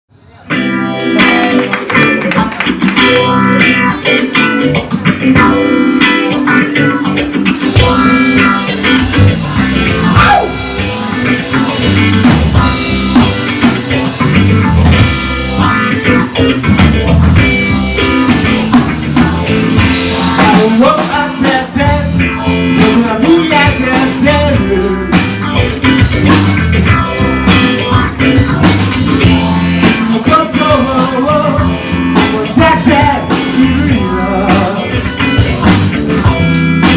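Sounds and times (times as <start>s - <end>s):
electric guitar: 0.2s - 36.9s
blues-rock band playing: 0.4s - 36.9s
drum kit: 0.5s - 36.9s.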